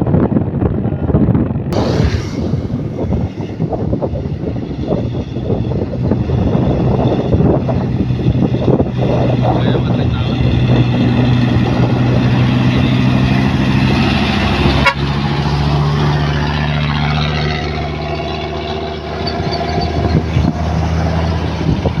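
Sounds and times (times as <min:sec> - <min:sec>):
heavy truck engine running: 0:01.8 - 0:22.0.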